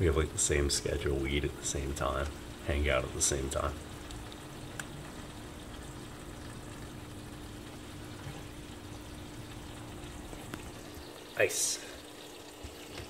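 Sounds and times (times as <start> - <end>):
steady hiss and low hum: 0.0 - 13.0.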